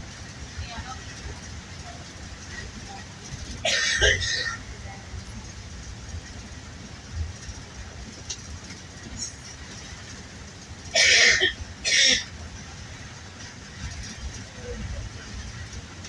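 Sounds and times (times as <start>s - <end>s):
bus rumbling in motion: 0.0s - 16.0s.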